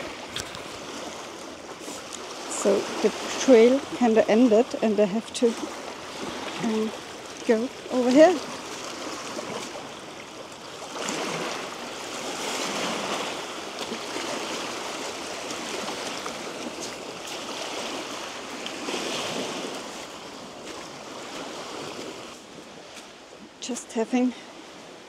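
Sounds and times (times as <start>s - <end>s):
rush of moving water: 0.0s - 25.0s.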